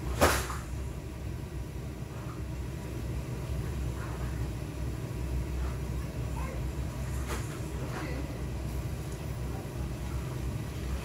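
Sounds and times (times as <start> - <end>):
low stove rumble: 0.0 - 11.0.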